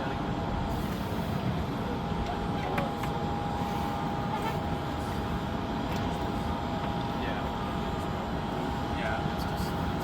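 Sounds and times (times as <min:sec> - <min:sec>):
thin steady whine: 0:00.0 - 0:10.0.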